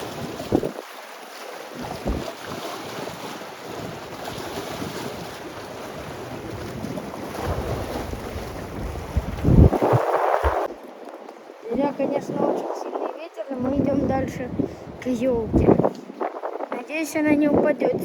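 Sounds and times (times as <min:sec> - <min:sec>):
wind buffeting the microphone: 0:00.0 - 0:01.0, 0:01.7 - 0:18.0
storm waves surging: 0:01.7 - 0:18.0.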